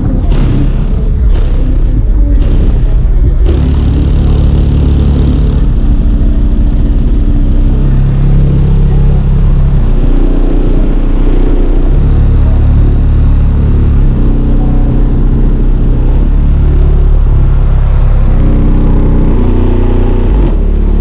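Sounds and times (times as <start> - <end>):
loud subwoofer bass: 0.0 - 21.0.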